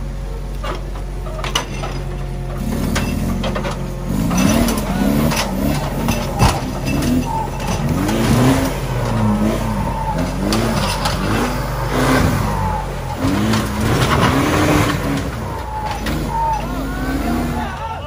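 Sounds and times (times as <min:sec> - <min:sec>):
engine revving: 0:01.4 - 0:18.0.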